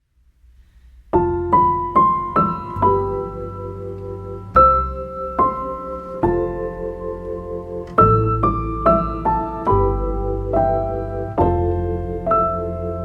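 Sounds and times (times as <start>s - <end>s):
piano music: 1.1s - 13.0s.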